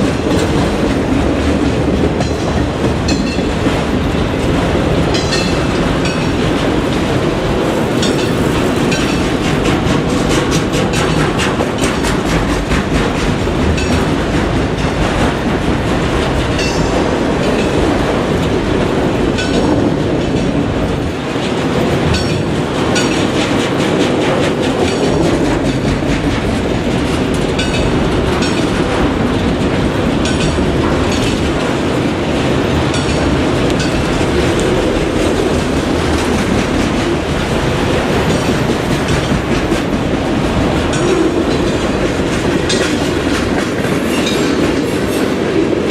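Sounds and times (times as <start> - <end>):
train wheels clacking over rail joints: 0.0 - 45.9.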